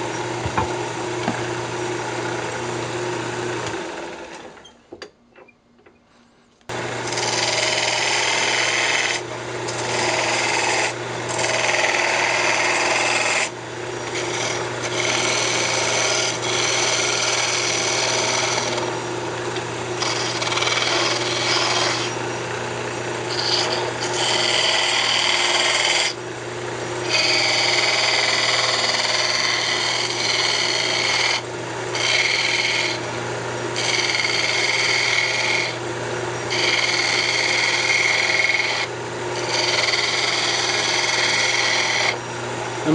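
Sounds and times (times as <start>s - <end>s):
lathe motor hum: 0.0s - 4.7s, 6.7s - 42.9s
turning tool cutting wood: 0.0s - 4.7s, 6.7s - 42.9s.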